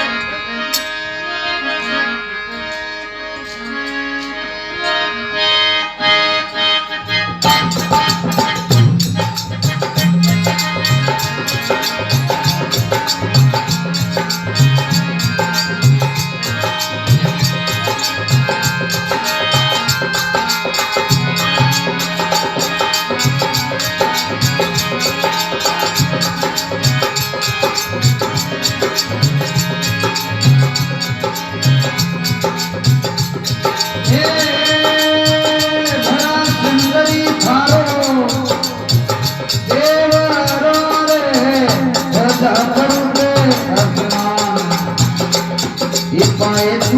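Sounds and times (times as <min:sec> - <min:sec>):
jingling percussion: 0:00.0 - 0:05.0, 0:06.3 - 0:46.9
reed keyboard melody: 0:00.0 - 0:46.9
hand drum beat: 0:07.4 - 0:46.9.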